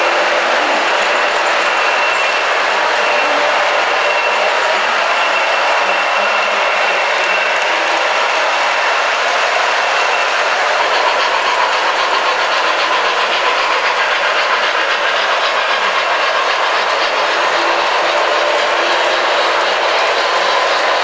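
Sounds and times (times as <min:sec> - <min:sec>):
model trains clattering: 0:00.0 - 0:21.0.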